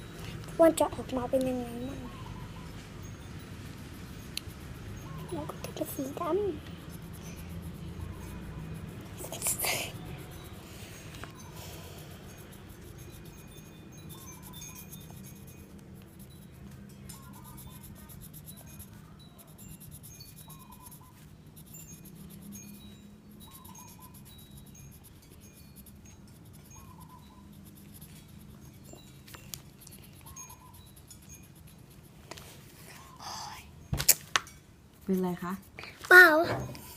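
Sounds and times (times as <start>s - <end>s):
colouring scratching on paper: 0.0s - 2.9s, 3.5s - 33.5s, 34.9s - 36.9s
soft chime-like background music: 2.2s - 32.0s.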